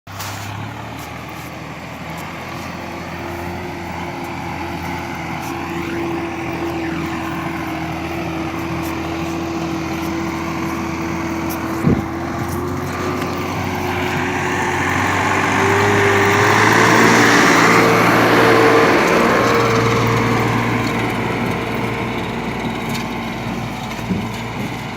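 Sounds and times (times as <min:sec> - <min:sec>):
tractor diesel engine under load: 0:00.1 - 0:24.9.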